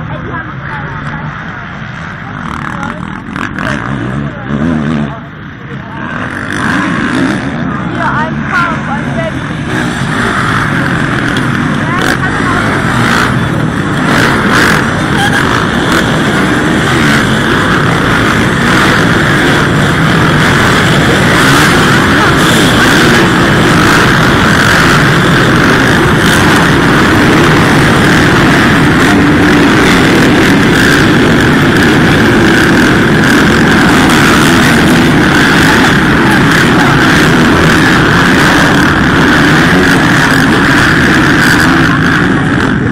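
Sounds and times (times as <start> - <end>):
motocross bikes racing: 0.0 - 42.9.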